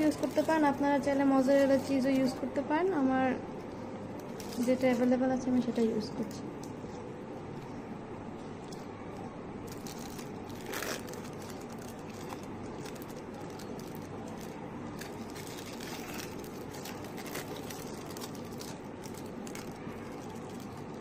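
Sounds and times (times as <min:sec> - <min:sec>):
plastic film crinkling: 0:00.0 - 0:02.4, 0:03.6 - 0:07.1, 0:08.6 - 0:21.0
steady background hum: 0:00.0 - 0:21.0.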